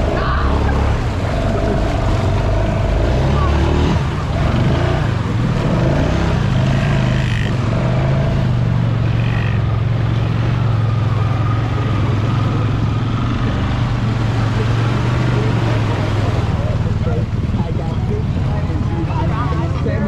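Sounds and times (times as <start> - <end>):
atv engine droning: 0.0 - 20.0.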